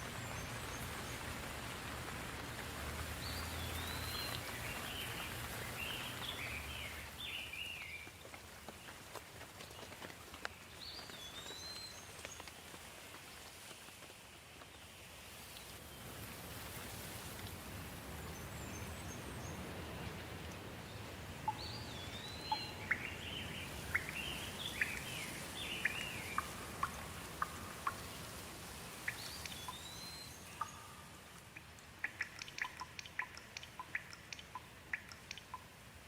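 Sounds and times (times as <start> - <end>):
songbird singing: 0.0 - 9.0, 9.6 - 12.5, 17.8 - 35.8
water dripping: 0.0 - 13.7, 17.0 - 36.0
steady rain falling: 0.0 - 36.0.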